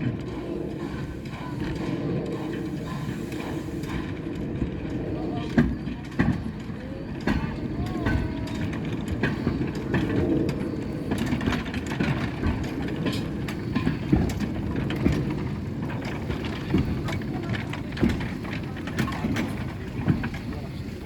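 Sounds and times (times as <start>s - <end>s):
steam locomotive working: 0.0s - 21.0s.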